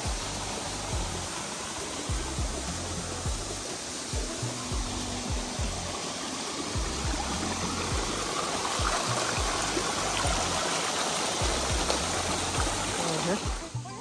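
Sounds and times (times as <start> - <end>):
background music bass beat: 0.0 - 10.8, 11.4 - 14.0
creek water rushing: 0.0 - 14.0.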